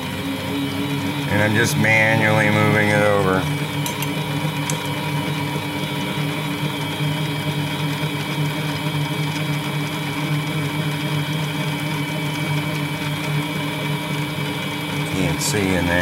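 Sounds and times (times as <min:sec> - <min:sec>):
lathe motor humming and whining: 0:00.0 - 0:16.0.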